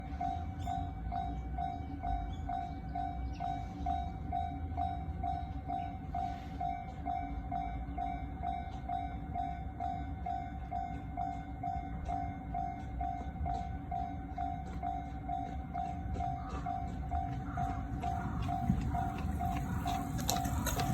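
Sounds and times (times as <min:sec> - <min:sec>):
level-crossing alarm bell: 0:00.0 - 0:20.9
train rumbling past: 0:00.0 - 0:20.9.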